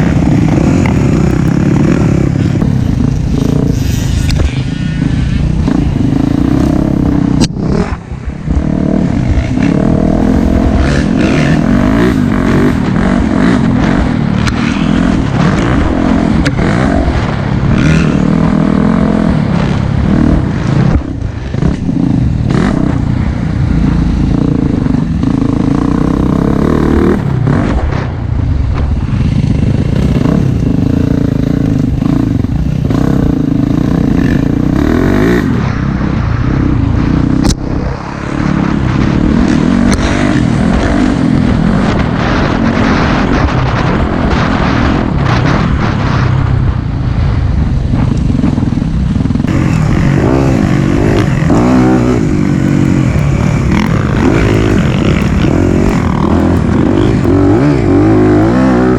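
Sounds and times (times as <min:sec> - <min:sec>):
dirt bike engine revving: 0:00.0 - 0:28.1, 0:29.0 - 0:46.2, 0:47.9 - 0:58.9.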